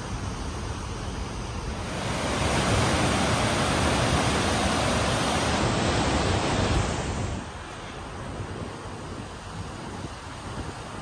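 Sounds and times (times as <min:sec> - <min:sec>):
ship wake water rushing: 0:00.0 - 0:11.0.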